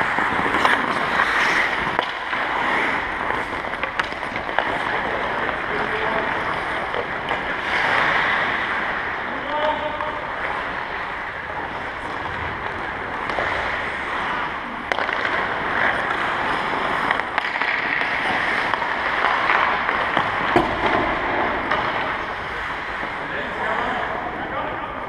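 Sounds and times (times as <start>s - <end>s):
stick hitting puck: 0.0s - 23.0s
skates scraping on ice: 0.0s - 25.0s.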